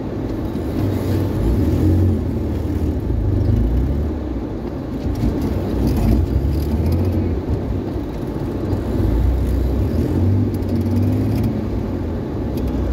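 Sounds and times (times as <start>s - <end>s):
car engine running inside cabin: 0.0s - 12.9s.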